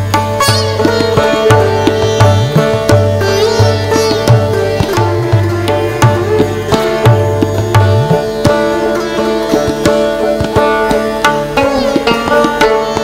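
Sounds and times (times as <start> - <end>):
hand drums: 0.0 - 13.0
plucked string notes: 0.0 - 13.0.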